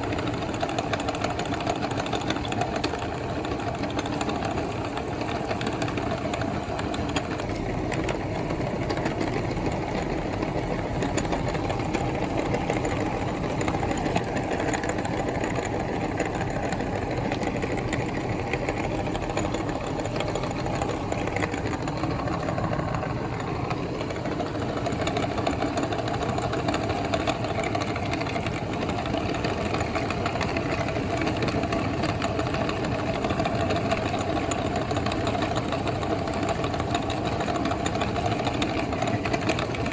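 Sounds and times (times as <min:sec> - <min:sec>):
meat grinder motor running: 0:00.0 - 0:39.9.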